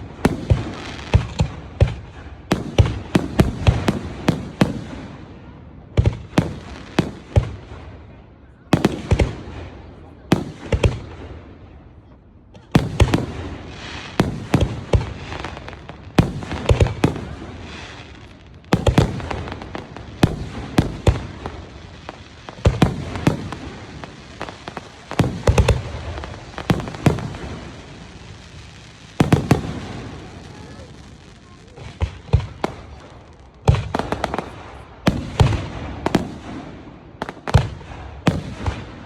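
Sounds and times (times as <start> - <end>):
fireworks crackling: 0.0 - 8.1, 12.6 - 39.0
fireworks exploding: 0.0 - 39.0.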